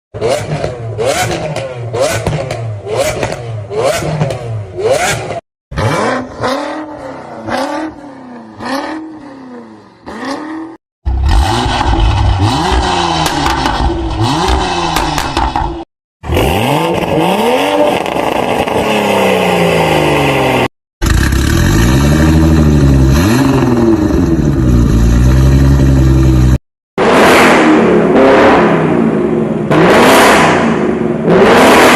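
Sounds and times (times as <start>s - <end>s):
car engines revving: 0.2s - 31.9s.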